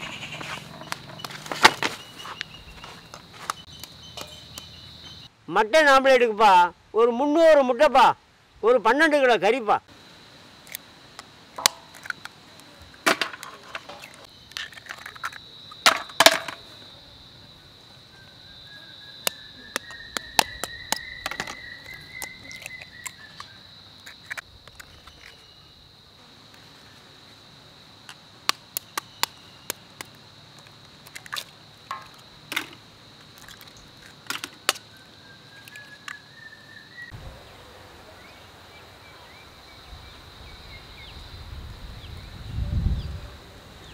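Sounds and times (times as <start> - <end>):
high insect drone: 0.0 - 5.4, 9.4 - 43.9.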